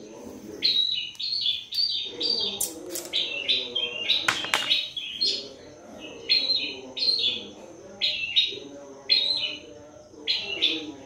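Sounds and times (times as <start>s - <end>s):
small bird chirping: 0.5s - 11.0s.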